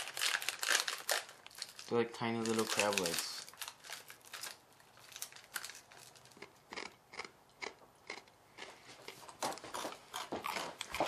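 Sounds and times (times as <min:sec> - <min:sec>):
crisp crunches of chewing: 0:00.0 - 0:11.0.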